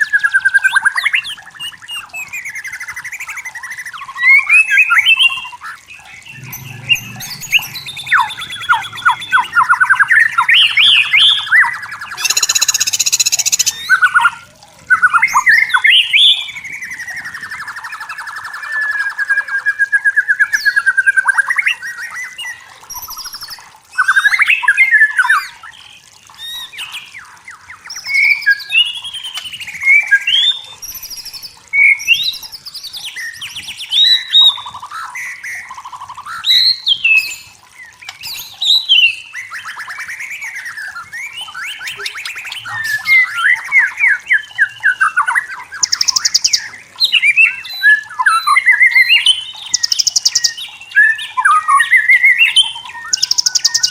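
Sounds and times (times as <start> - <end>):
bird singing whistles and trills: 0.0 - 53.9.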